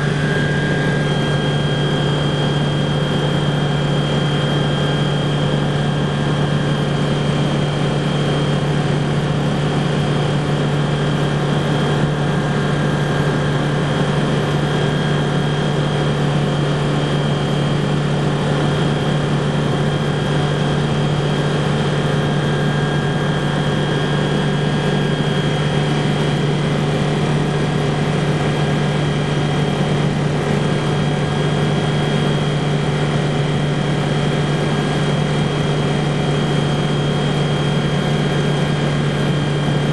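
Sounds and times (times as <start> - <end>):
aircraft engine and propeller hum: 0.0 - 39.9.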